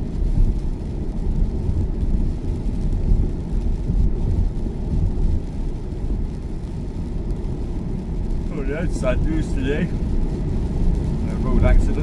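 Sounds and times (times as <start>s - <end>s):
road and tyre noise rumble: 0.0s - 12.0s.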